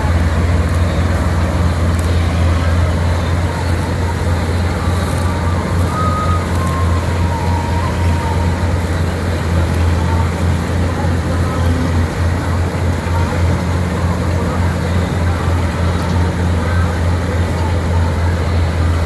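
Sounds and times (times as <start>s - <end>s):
combine harvester engine drone: 0.0s - 19.0s
machinery clatter: 0.0s - 19.0s.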